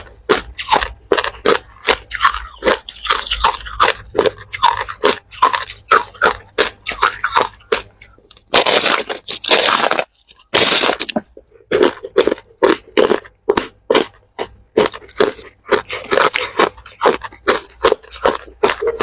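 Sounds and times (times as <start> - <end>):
ice cubes crunching: 0.0 - 19.0.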